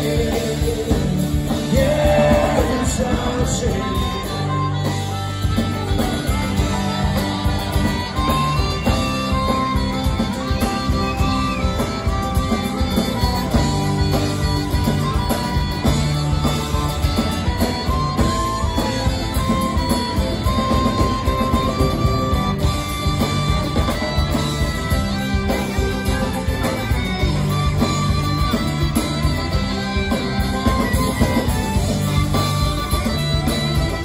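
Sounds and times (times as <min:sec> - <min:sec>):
amplified harmonica solo: 0:00.0 - 0:34.0
rock band playing: 0:00.0 - 0:34.0.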